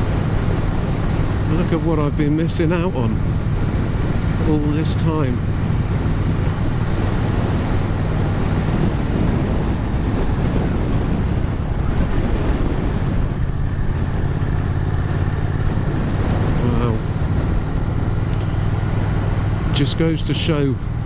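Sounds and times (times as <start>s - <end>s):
motorcycle engine running: 0.0s - 21.0s
road noise: 0.0s - 21.0s
wind noise on microphone: 0.0s - 21.0s.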